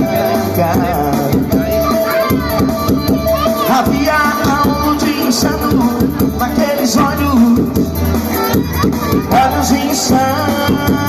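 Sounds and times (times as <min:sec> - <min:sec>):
drum kit beat: 0:00.0 - 0:11.0
pop-rock band music: 0:00.0 - 0:11.0.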